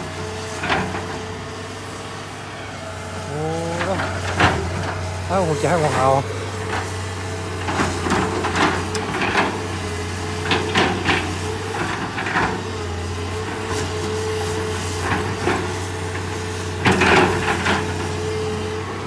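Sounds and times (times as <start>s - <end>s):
excavator diesel engine drone: 0.0s - 19.0s.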